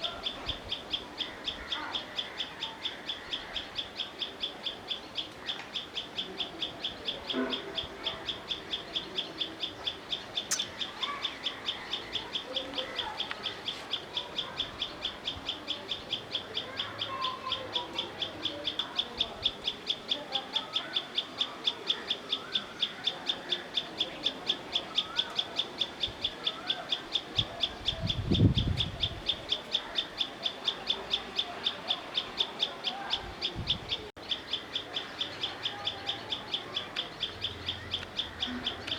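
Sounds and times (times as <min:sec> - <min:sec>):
bird chirping steadily: 0:00.0 - 0:38.9
faint birds calling: 0:00.0 - 0:38.9.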